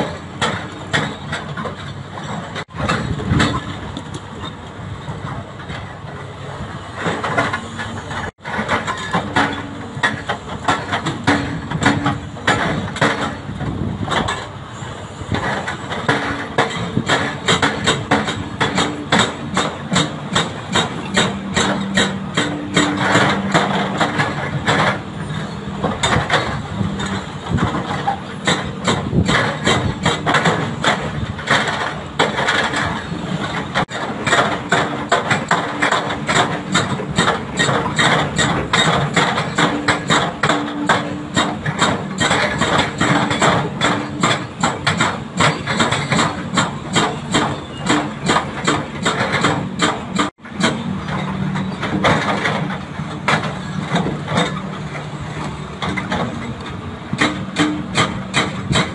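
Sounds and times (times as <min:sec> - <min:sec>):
hydraulic breaker hammering rock: 0:00.0 - 0:04.6, 0:07.0 - 0:58.9
diesel engines running: 0:00.0 - 0:58.9.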